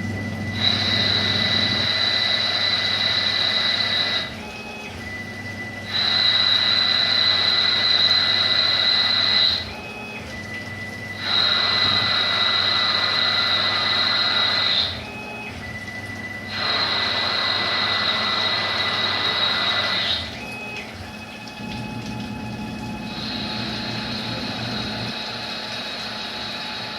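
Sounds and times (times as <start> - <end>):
lathe cutting whine: 0.0 - 26.9
lathe low steady tone: 0.0 - 26.9.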